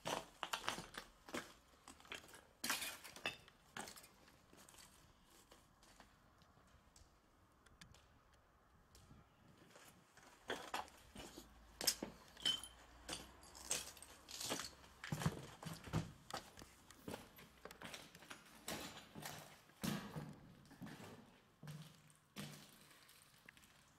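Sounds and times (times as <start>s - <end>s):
footsteps crunching over rubble: 0.0s - 7.1s, 8.9s - 23.9s.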